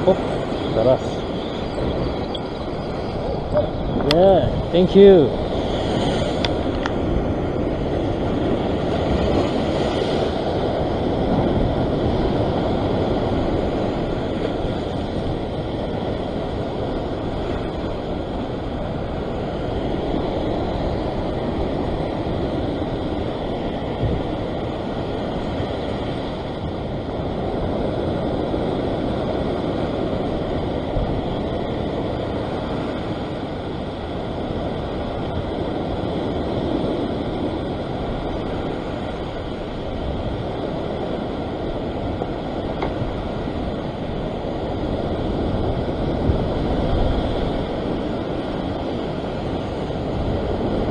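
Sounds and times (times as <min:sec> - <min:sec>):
ocean surf breaking over rocks: 0:00.0 - 0:50.9
wind rumbling on microphone: 0:00.0 - 0:50.9.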